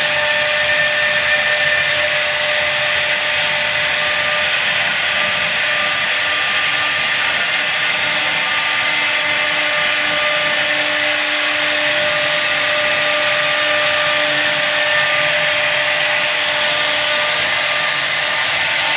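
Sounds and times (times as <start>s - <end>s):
router spindle whining: 0.0s - 18.9s.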